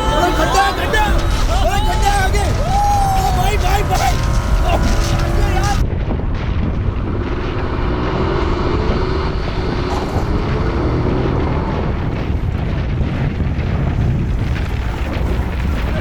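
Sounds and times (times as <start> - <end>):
diesel engine pulling: 0.0 - 16.0
low rumble: 0.0 - 16.0.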